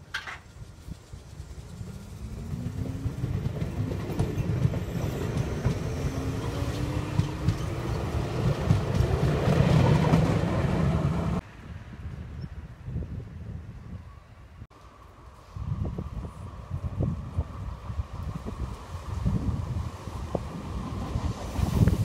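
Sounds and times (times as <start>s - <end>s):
electric train rolling past: 0.0s - 12.2s, 14.7s - 22.0s
faint wind: 0.0s - 22.0s.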